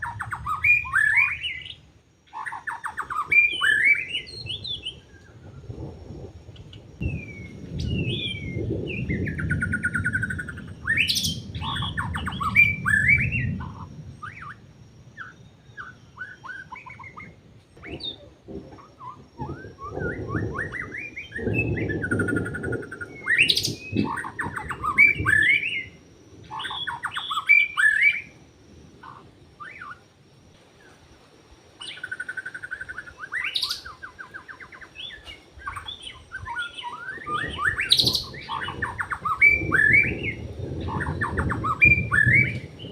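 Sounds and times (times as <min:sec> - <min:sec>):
bird singing: 0:00.0 - 0:42.9.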